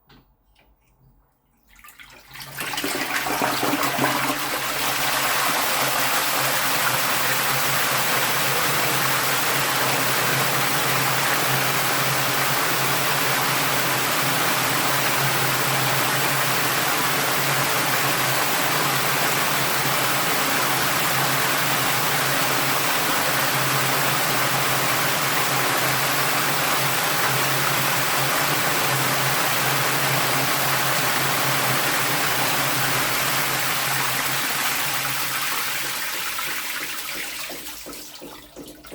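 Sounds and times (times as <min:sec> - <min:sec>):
washing machine water churning: 0:01.6 - 0:38.9.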